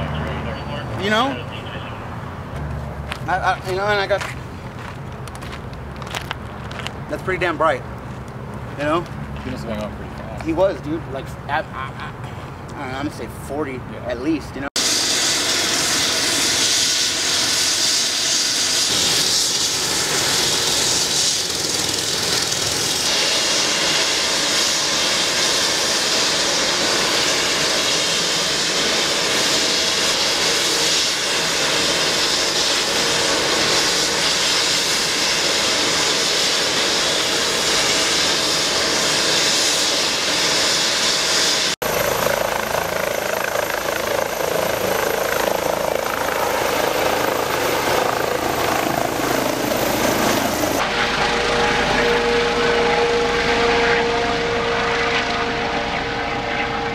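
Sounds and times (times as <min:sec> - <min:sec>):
helicopter turbine and rotor noise: 0:00.0 - 0:56.9.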